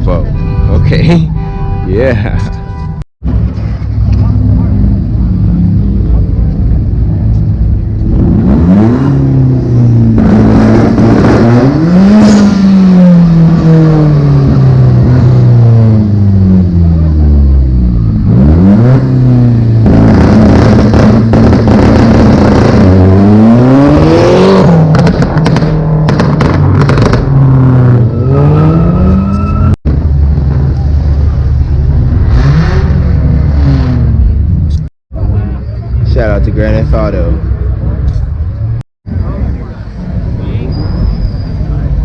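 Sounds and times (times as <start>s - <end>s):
car engine revving: 3.2s - 42.0s.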